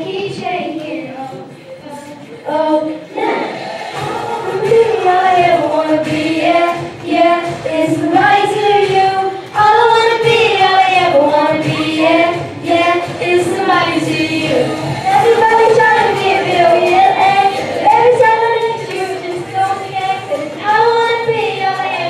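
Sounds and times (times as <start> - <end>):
girls singing into microphones: 0.0 - 22.0.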